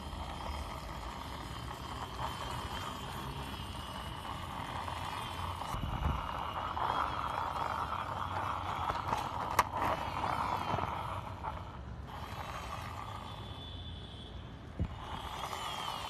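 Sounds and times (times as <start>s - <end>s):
toy wheels rolling and scraping: 0.0s - 16.0s.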